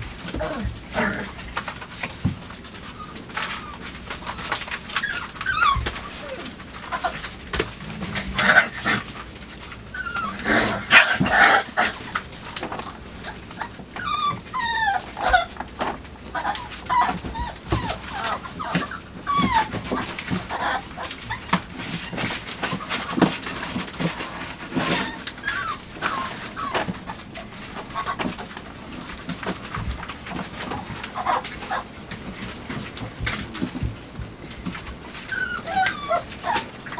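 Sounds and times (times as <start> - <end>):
puppies whining and yipping: 0.0 - 36.9
scrabbling paws: 0.0 - 36.9
cardboard box being chewed: 0.1 - 36.9.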